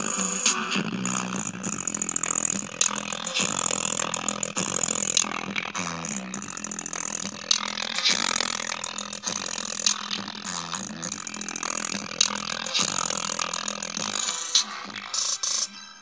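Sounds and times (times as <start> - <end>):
rough electrical buzz: 0.0 - 15.6.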